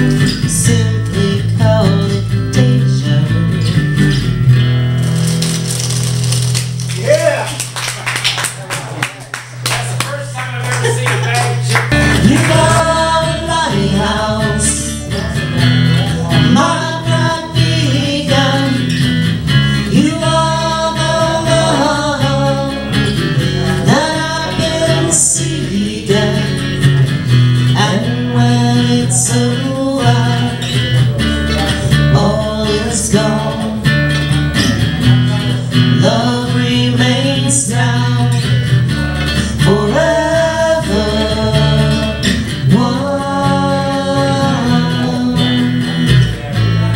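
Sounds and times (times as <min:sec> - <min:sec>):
person singing: 0:00.0 - 0:03.8, 0:11.8 - 0:46.9
strummed acoustic guitar: 0:00.0 - 0:07.8, 0:08.5 - 0:46.9
bass notes: 0:00.0 - 0:46.9.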